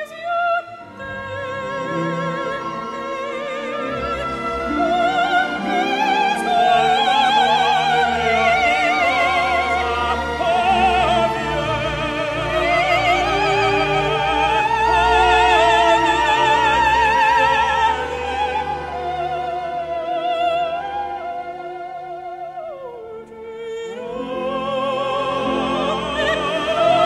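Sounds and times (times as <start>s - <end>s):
operatic voice singing: 0.0s - 27.0s.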